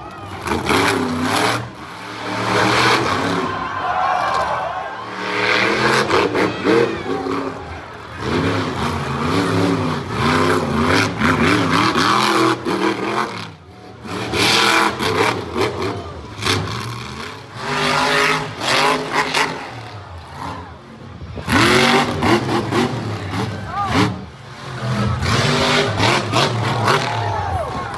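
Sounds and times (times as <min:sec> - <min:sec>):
truck engine revving hard: 0:00.0 - 0:27.9.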